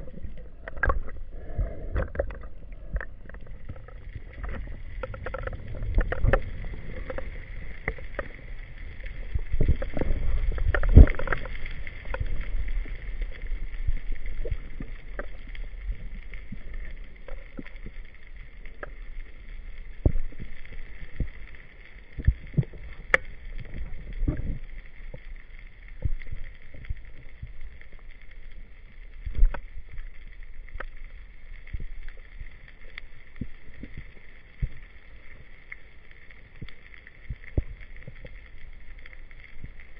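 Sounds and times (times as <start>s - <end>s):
faint steady hiss: 0.0s - 39.9s
underwater rumble of moving water: 0.0s - 39.9s.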